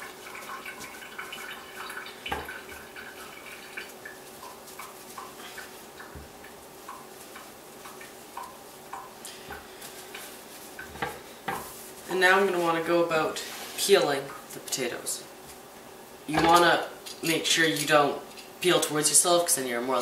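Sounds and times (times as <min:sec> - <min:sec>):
paper towel rustling: 0:00.0 - 0:16.6.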